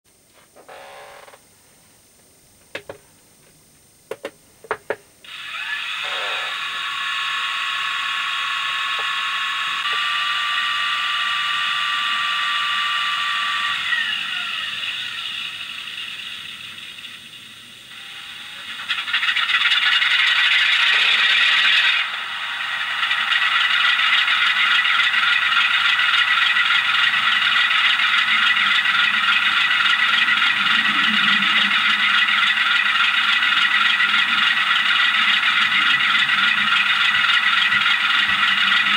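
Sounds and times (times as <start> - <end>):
diesel engine through small speaker: 5.3 - 38.9.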